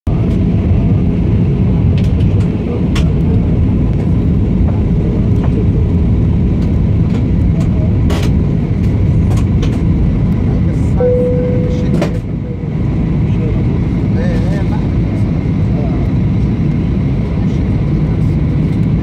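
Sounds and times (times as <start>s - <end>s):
airliner engines rumbling: 0.1s - 19.0s.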